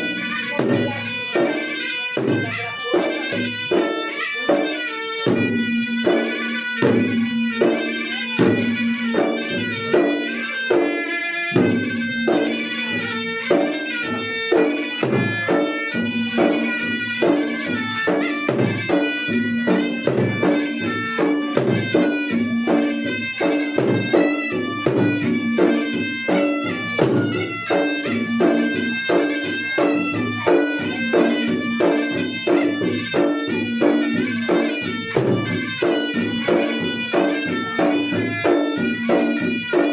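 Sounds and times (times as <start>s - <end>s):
drums beating fast rhythm: 0.0s - 39.9s
shrill reed pipe melody: 0.0s - 39.9s.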